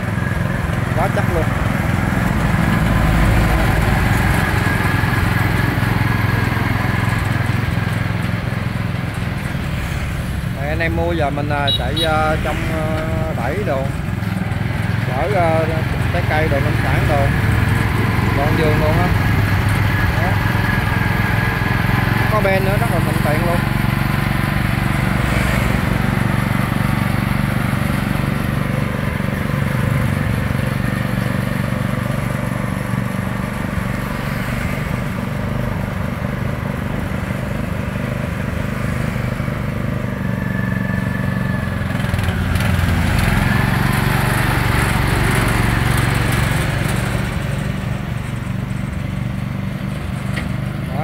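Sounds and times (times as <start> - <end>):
motorbikes passing: 0.0 - 51.0
small petrol engine running: 0.0 - 51.0.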